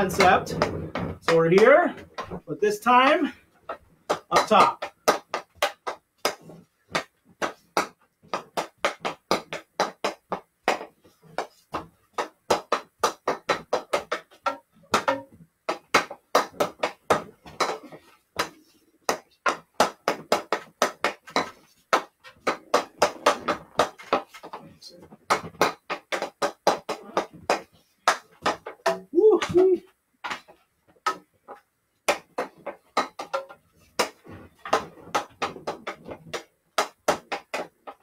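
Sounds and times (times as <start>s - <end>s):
hockey stick tapping a ball: 0.0s - 38.0s.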